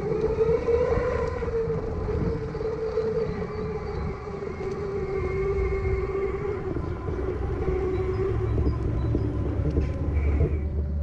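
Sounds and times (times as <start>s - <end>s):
electric motors whining: 0.0s - 11.0s
wheels rumbling on rough ground: 0.0s - 11.0s.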